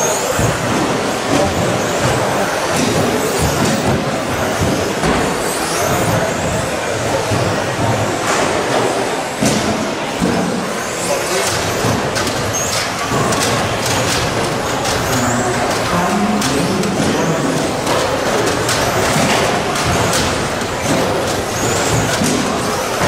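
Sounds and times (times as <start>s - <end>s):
murmur of voices: 0.0s - 23.0s
radio-controlled trucks racing: 0.0s - 23.0s
scattered knocks: 0.3s - 23.0s.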